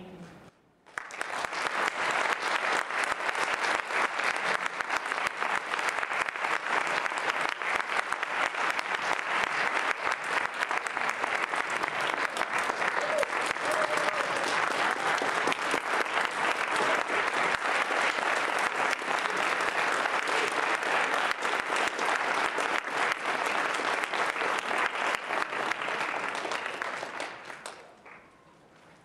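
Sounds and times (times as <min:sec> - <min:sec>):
audience applauding: 0:00.8 - 0:29.0.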